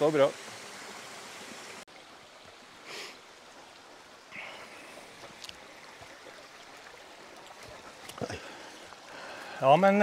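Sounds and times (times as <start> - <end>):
forest stream running: 0.0 - 10.0.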